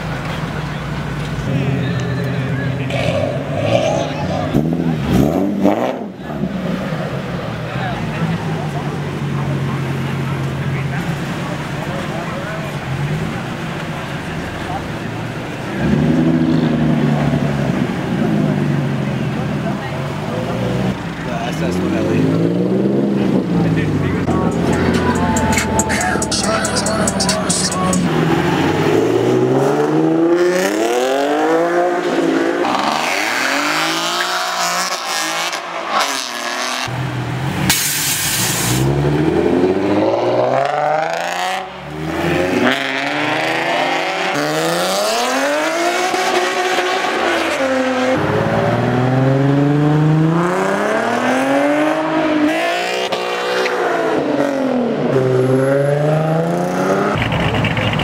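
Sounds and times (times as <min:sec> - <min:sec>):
sports car engines revving: 0:00.0 - 0:58.0.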